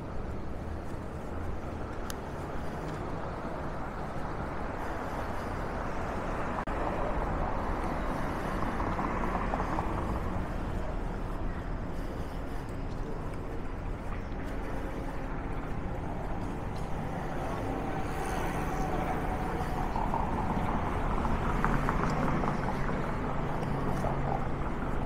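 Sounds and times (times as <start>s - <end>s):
city street traffic: 0.0s - 25.0s
vehicle passing: 0.2s - 25.0s.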